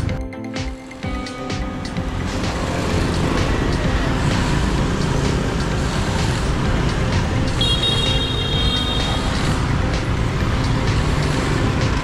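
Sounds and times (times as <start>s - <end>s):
passing motorbikes and cars: 0.8s - 12.0s.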